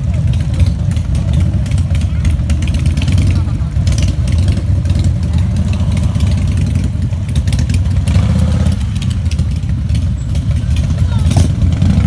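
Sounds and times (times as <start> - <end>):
motorcycles rumbling past: 0.0 - 12.0.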